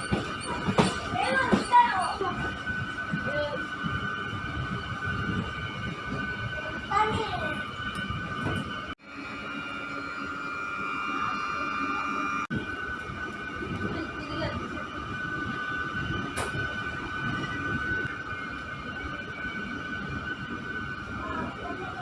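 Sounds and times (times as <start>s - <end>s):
electric train rumbling: 0.0s - 22.0s
high train whine: 0.0s - 22.0s.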